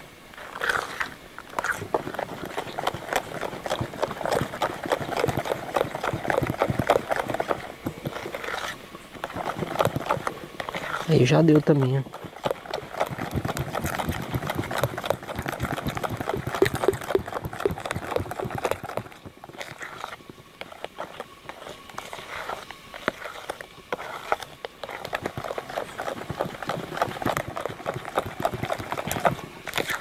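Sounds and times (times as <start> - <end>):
utensil scraping bowl stirring batter: 0.4 - 30.0.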